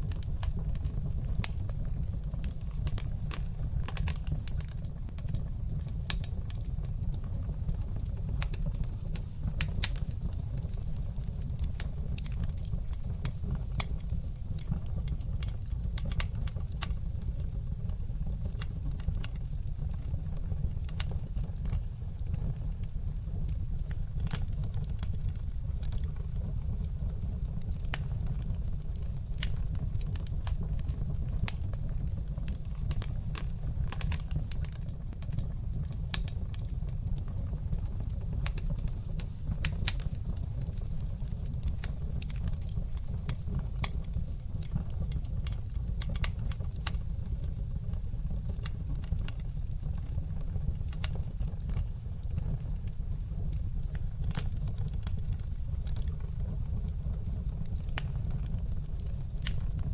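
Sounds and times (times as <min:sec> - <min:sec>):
low fire rumble: 0:00.0 - 0:59.9
wood fire crackling: 0:00.0 - 0:59.9.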